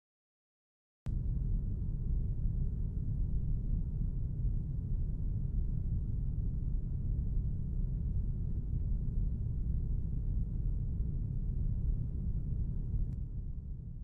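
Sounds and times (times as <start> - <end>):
steady deep rumble: 1.1 - 14.0.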